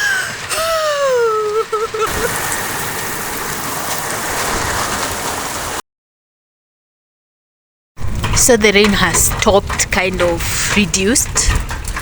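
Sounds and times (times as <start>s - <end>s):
steady rain falling: 0.0s - 5.8s, 8.0s - 12.0s.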